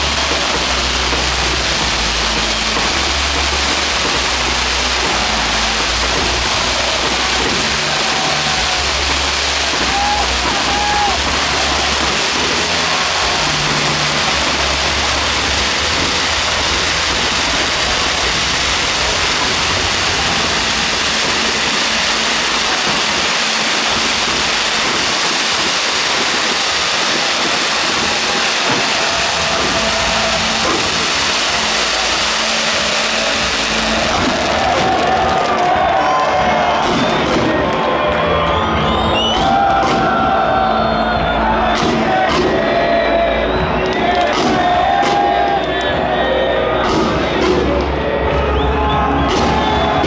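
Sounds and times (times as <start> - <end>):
stadium crowd roar: 0.0 - 50.0.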